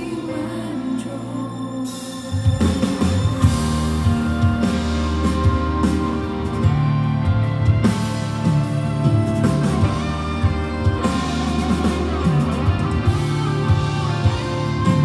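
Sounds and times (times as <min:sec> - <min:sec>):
live band playing: 0:01.8 - 0:15.0.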